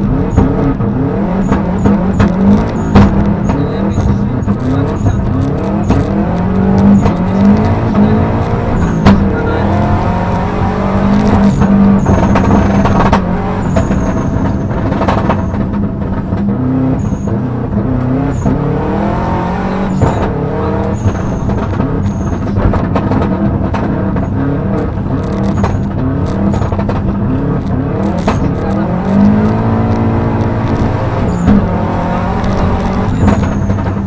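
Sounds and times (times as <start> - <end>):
rally car engine revving: 0.0 - 34.0
sharp clicks and knocks: 0.0 - 34.0.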